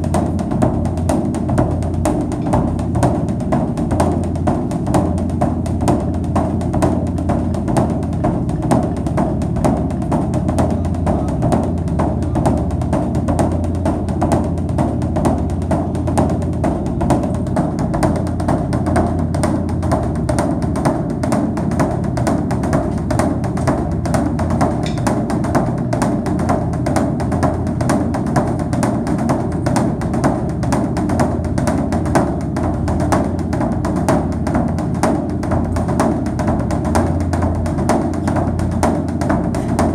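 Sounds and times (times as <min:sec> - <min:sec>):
rapid drum and wood-block strikes: 0:00.0 - 0:39.9
sustained low bass: 0:00.0 - 0:39.9.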